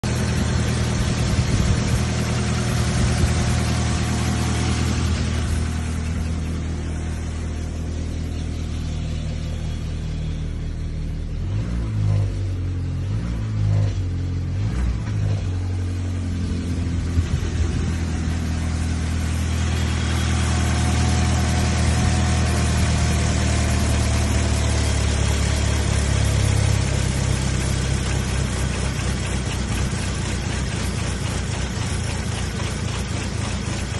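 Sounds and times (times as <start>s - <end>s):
car engine misfiring: 0.0s - 33.9s.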